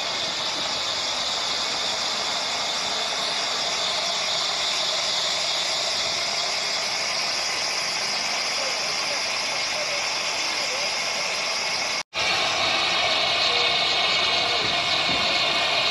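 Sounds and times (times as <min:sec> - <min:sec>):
steam hissing: 0:00.0 - 0:15.9.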